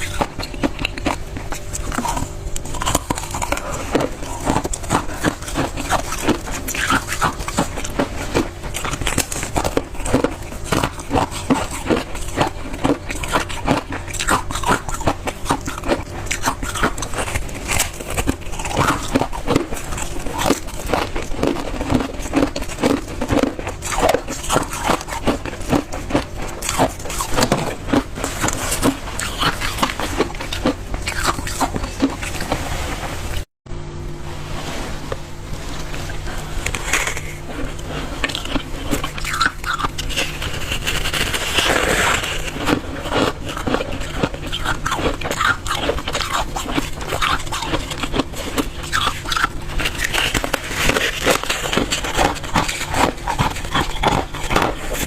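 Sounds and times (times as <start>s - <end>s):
chewing crunchy ice: 0.0s - 33.5s, 35.6s - 55.0s.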